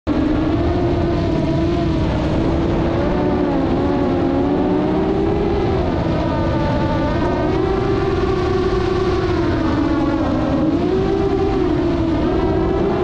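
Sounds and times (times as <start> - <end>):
drone motors whining: 0.1 - 13.0
rush of wind: 0.1 - 13.0.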